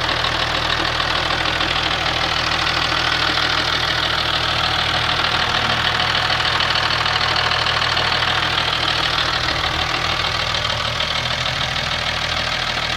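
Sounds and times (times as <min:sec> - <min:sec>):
diesel engine idling clacky: 0:00.0 - 0:12.9.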